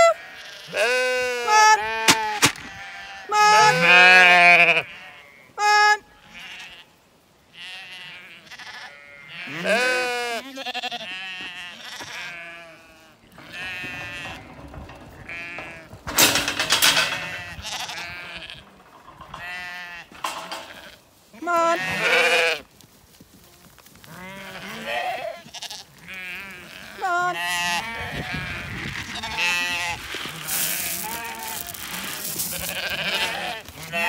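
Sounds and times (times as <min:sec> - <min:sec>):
sheep bleating: 0:00.0 - 0:06.9, 0:07.5 - 0:22.6, 0:24.0 - 0:34.0.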